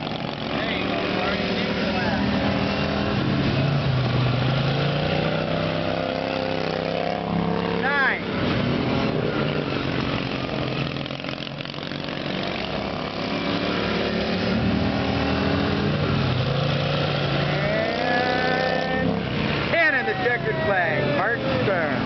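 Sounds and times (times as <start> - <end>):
lawn tractor engines running: 0.0 - 22.0.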